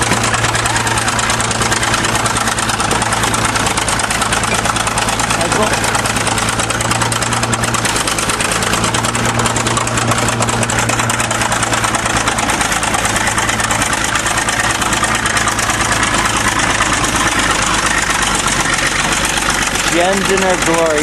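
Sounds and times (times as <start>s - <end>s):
bulldozer diesel engine clattering: 0.0s - 21.0s.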